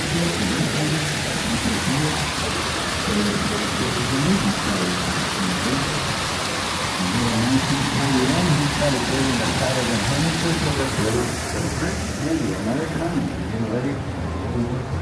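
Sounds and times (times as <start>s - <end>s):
rushing hiss: 0.0s - 13.3s
people talking: 0.0s - 15.0s.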